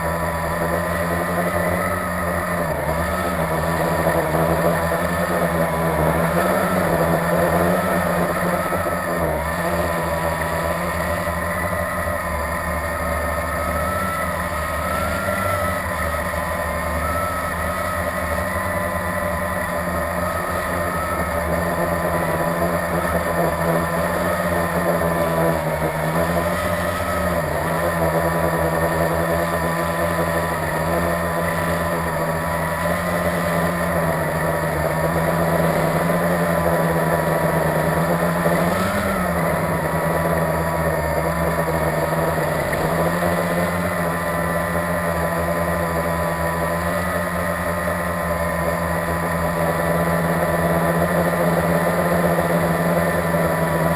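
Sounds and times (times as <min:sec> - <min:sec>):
quadcopter motors buzzing: 0:00.0 - 0:53.9.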